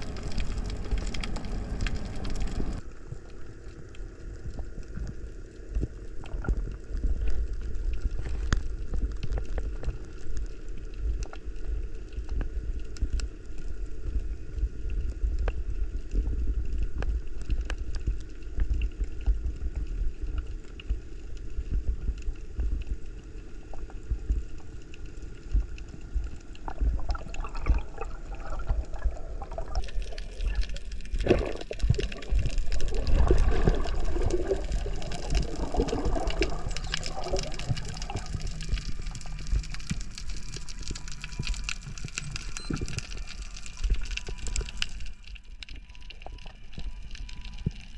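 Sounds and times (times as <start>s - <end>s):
bubbling and rushing water: 0.0s - 47.9s
underwater rumble of moving water: 0.0s - 47.9s.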